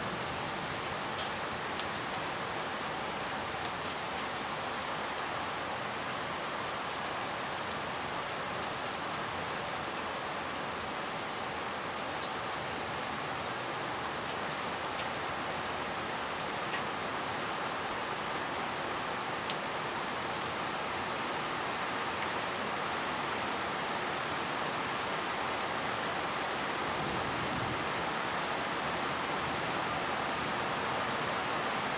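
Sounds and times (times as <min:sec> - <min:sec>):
raindrops hitting close by: 0:00.0 - 0:31.9
steady rain: 0:00.0 - 0:31.9.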